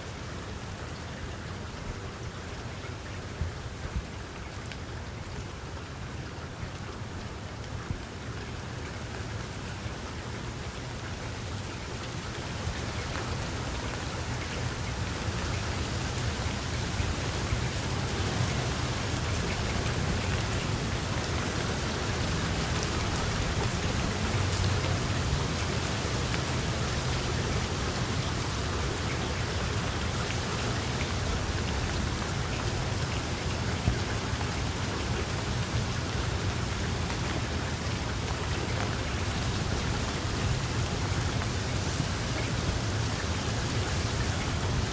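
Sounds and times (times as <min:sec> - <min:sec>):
steady rainfall: 0:00.0 - 0:44.9
raindrop ticks: 0:06.6 - 0:44.9.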